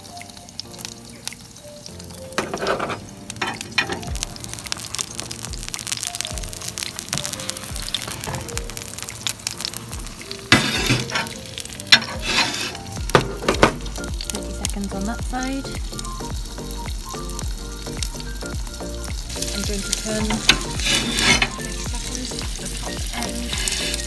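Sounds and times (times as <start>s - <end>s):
burger patties sizzling: 0.0s - 24.0s
soft background music: 0.0s - 24.0s.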